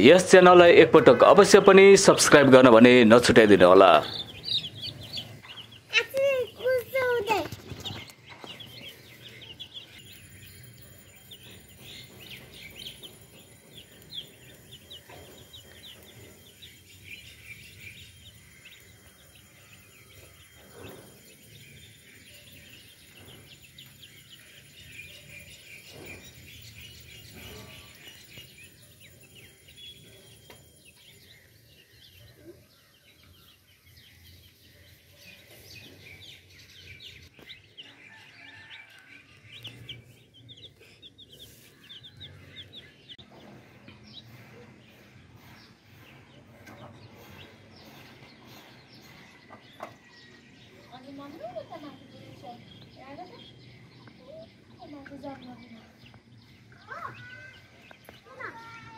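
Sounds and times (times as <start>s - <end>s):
chicks peeping: 0.0s - 58.9s.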